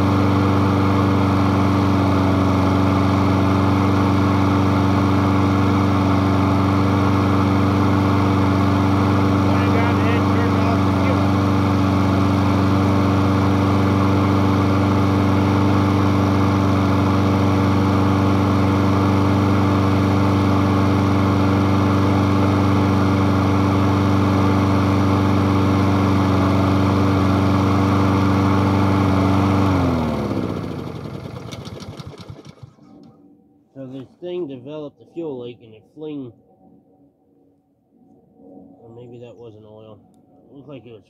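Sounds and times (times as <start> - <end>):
lawn mower engine running: 0.0 - 33.1.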